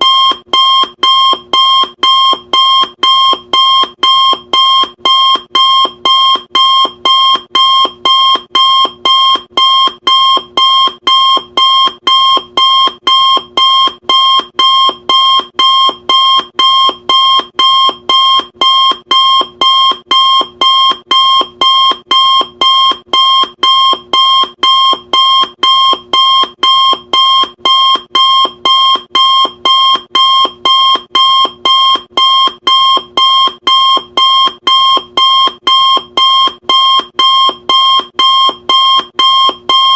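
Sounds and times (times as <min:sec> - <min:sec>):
timer alarm beeping: 0:00.0 - 0:39.9.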